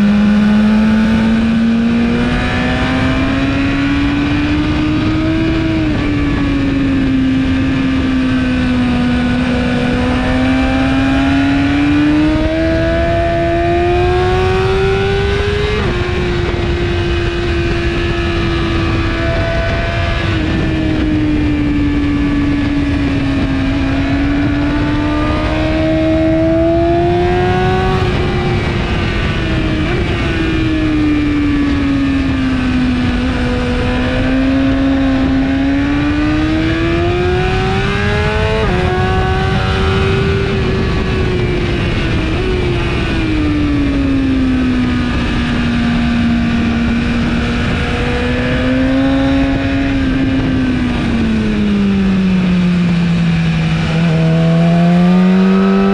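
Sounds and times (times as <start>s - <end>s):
motorcycle engine at speed: 0.0s - 55.9s
wind rushing: 0.0s - 55.9s.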